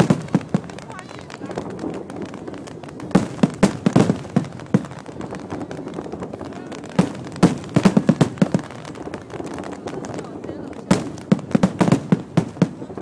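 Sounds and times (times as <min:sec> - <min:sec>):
fireworks and firecrackers banging: 0:00.0 - 0:13.0.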